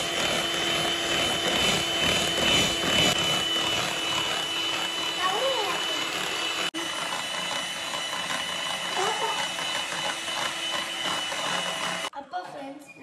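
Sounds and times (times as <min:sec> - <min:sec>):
electric mixer whine: 0:00.0 - 0:12.1.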